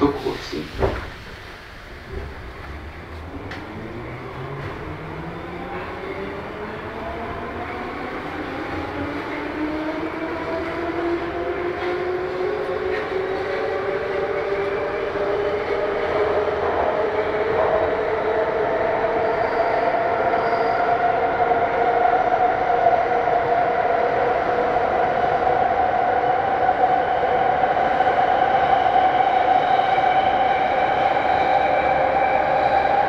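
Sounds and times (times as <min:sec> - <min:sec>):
rail noise: 0:00.0 - 0:33.0.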